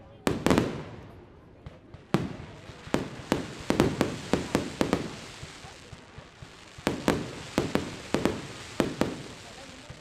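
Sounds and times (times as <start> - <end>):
fireworks bangs: 0.2 - 10.0.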